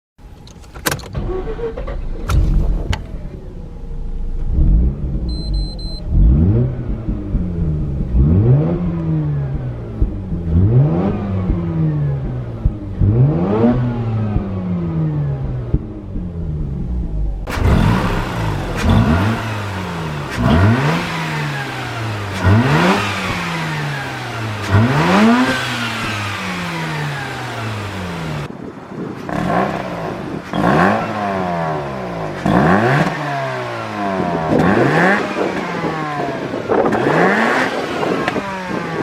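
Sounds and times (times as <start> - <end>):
rotary engine revving from idle: 1.2 - 28.6, 29.2 - 39.0.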